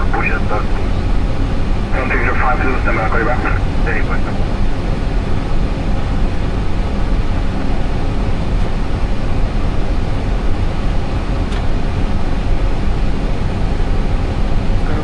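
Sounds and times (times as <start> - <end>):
aircraft cockpit engine rumble: 0.0 - 15.0.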